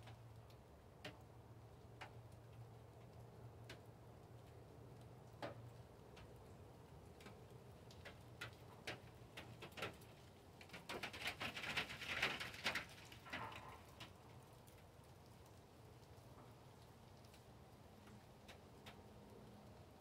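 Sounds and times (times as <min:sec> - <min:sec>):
raindrops pattering: 0:00.0 - 0:20.0.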